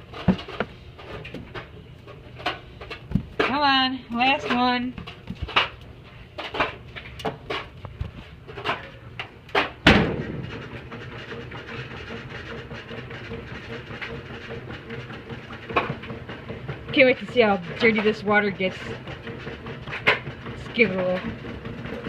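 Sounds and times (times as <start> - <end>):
washing machine whooshing hum: 0.0 - 22.0.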